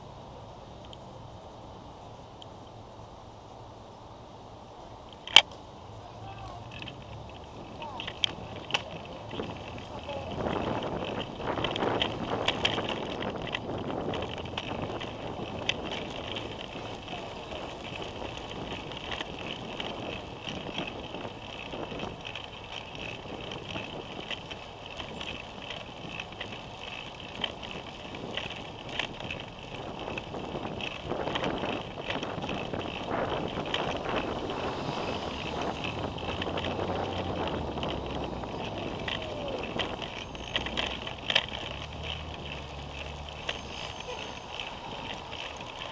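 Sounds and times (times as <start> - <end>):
bicycle ride rush and rattles: 0.0 - 45.9
street traffic: 0.0 - 45.9.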